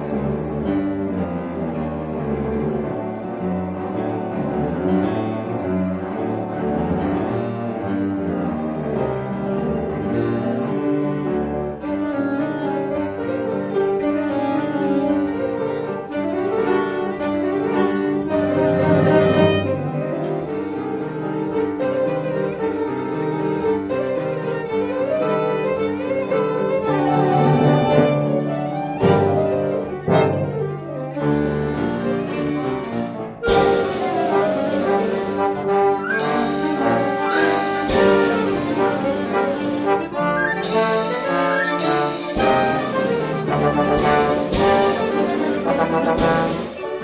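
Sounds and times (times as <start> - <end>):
bowed strings: 0.0 - 47.0
piano: 0.0 - 47.0.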